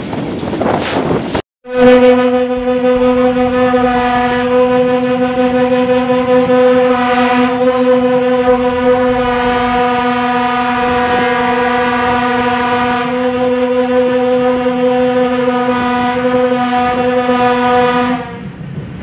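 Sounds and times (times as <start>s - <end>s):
long train horn: 1.6s - 18.6s.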